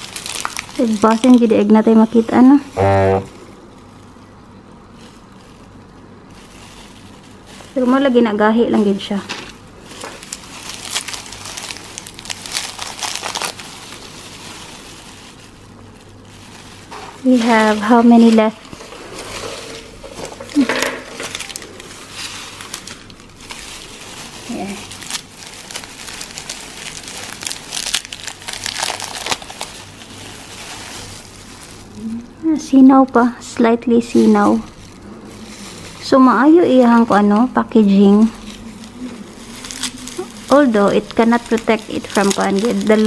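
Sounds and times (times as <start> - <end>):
foil wrapper crinkling: 0.0 - 43.0
plastic gloves crinkling: 0.0 - 43.0.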